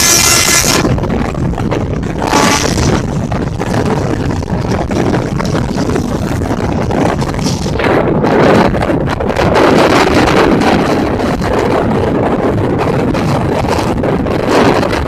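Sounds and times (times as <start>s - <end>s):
train wheels rumbling on track: 0.0s - 15.0s
wind on microphone: 0.0s - 15.0s.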